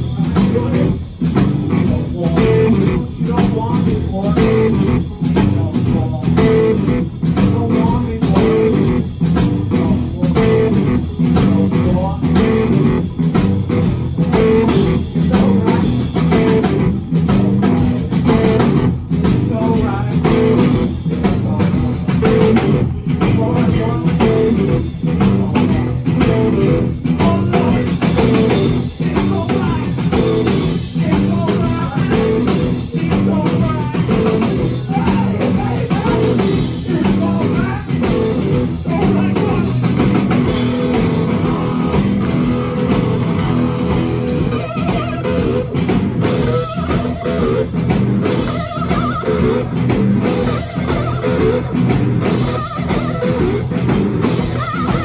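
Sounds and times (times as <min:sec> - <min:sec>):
drum kit beat: 0:00.0 - 0:55.0
electric guitars: 0:00.0 - 0:55.0.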